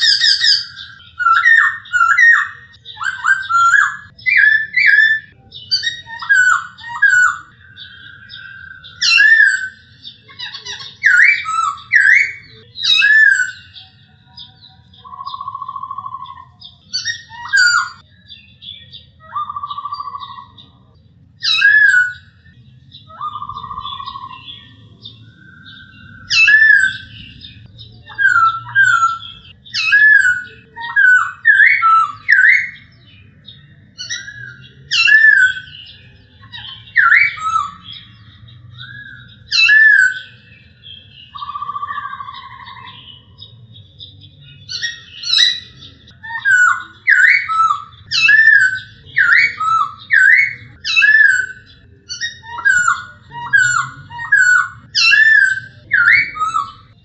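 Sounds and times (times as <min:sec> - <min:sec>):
bird singing whistled phrases: 0:00.0 - 0:20.8, 0:21.4 - 0:33.2, 0:33.9 - 0:43.3, 0:44.6 - 0:57.0.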